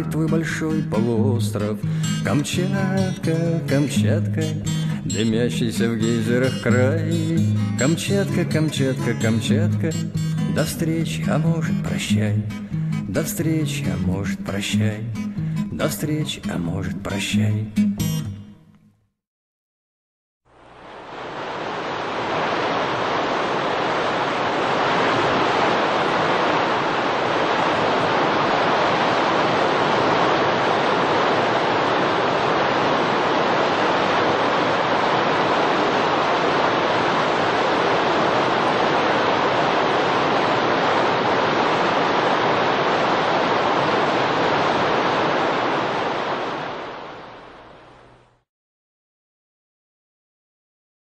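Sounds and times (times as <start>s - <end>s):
rushing water: 0.0s - 14.7s, 20.5s - 48.2s.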